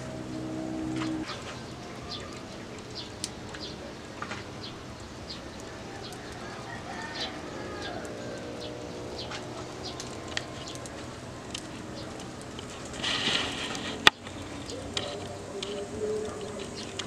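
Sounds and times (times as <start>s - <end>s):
small birds chirping: 0.0s - 17.0s
wood fire crackling: 0.0s - 17.0s.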